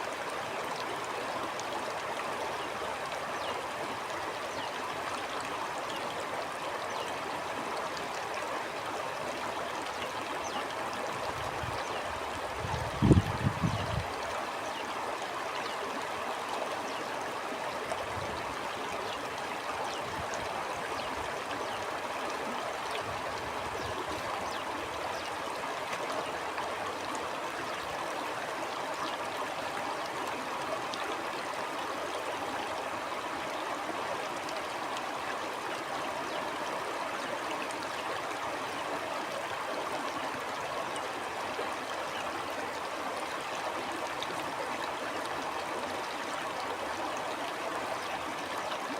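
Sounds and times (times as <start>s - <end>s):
stream flowing: 0.0s - 48.9s.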